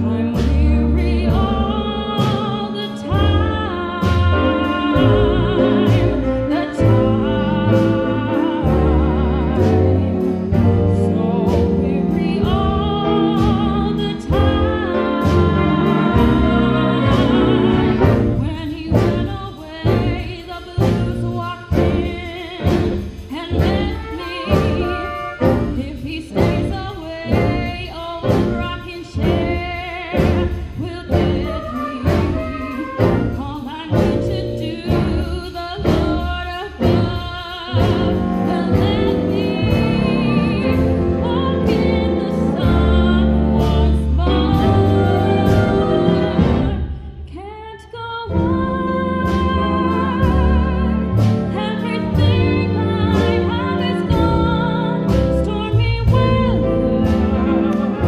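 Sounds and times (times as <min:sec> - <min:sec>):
jazz band playing: 0:00.0 - 0:47.0, 0:48.2 - 0:58.0
woman singing: 0:00.0 - 0:58.0.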